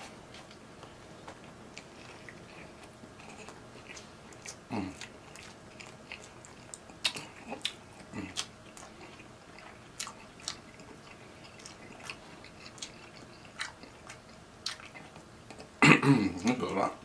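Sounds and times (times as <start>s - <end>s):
chewing sandwich: 0.3s - 15.8s.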